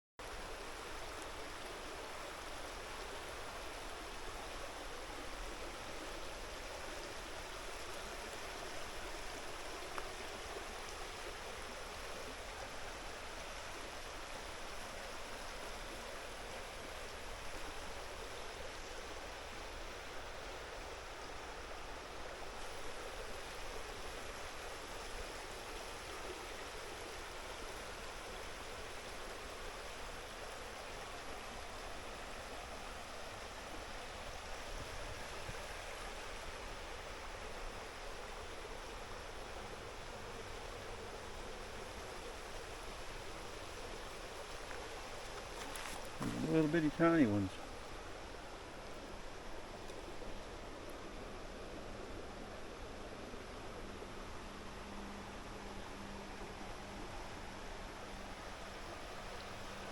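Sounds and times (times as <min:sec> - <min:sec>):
creek water rushing: 0:00.2 - 0:59.9.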